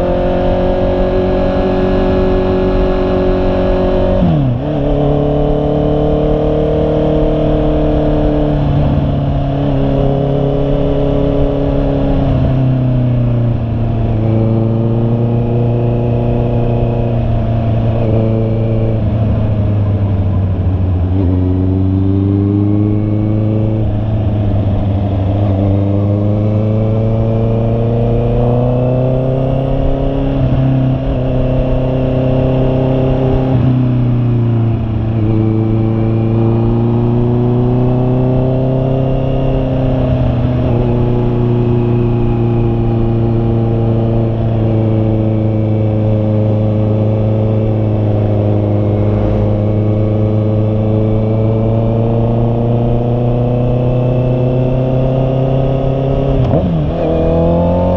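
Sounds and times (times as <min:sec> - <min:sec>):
motorcycle engine revving: 0:00.0 - 0:57.9
wind and road noise: 0:00.0 - 0:57.9.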